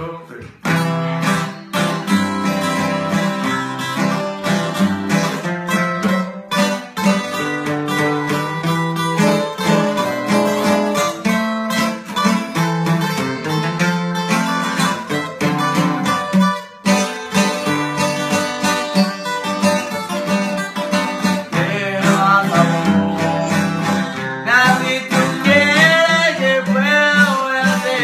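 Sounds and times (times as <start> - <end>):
two acoustic guitars playing: 0.0 - 28.0.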